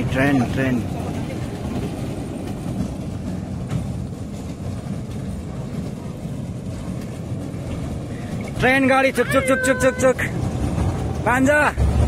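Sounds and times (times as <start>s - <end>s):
ride train rumbling on track: 0.0s - 12.0s.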